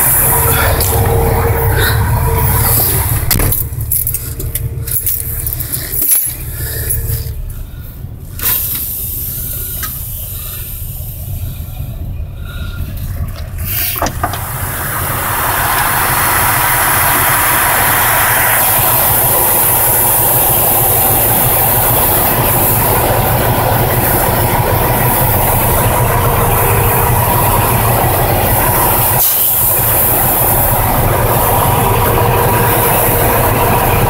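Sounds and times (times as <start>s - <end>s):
diesel engine low rumble: 0.0s - 34.0s.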